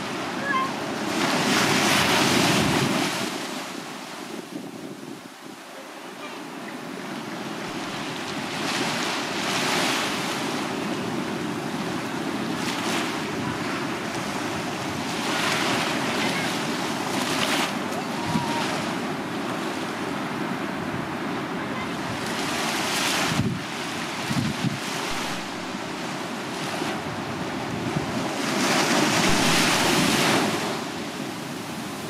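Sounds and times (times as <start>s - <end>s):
small waves washing up beach: 0.0s - 32.0s.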